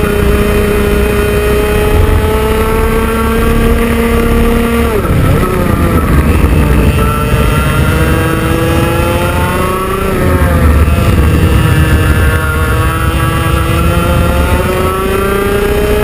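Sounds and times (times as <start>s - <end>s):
kart engine under hard throttle: 0.0s - 16.0s.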